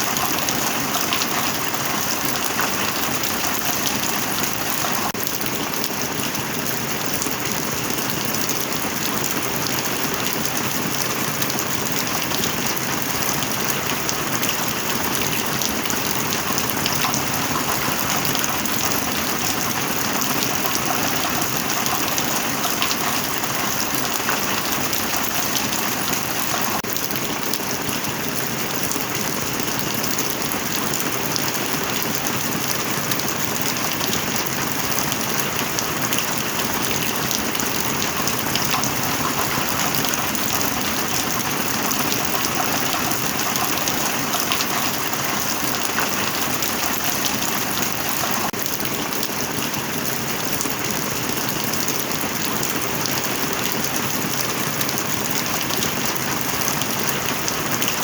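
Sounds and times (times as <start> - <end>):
heavy rain: 0.0 - 58.0
raindrops ticking: 0.0 - 58.0.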